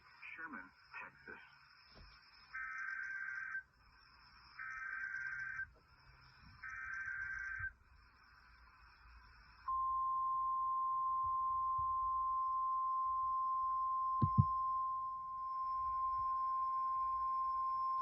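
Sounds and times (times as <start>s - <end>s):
steady warning beep: 0.0s - 18.0s.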